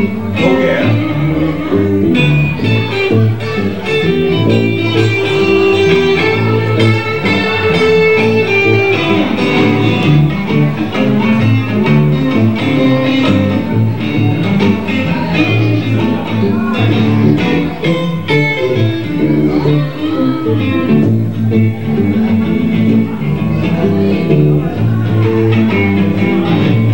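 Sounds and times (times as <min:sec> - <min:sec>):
blues band playing: 0:00.0 - 0:26.9
guitar: 0:00.0 - 0:26.9.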